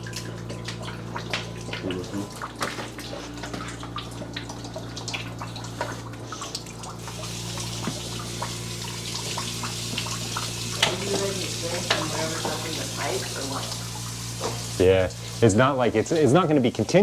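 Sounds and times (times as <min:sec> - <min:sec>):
water trickling into a bucket: 0:00.0 - 0:17.0.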